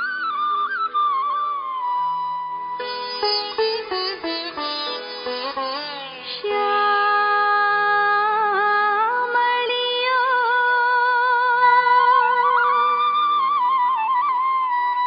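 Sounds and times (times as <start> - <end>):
devotional song melody: 0.0 - 15.0.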